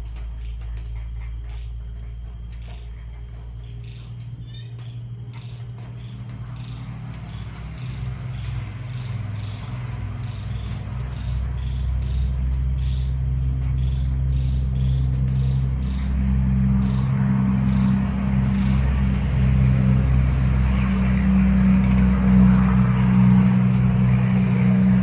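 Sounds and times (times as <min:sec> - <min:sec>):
deep steady rumble: 0:00.0 - 0:25.0
insects chirping: 0:00.0 - 0:25.0.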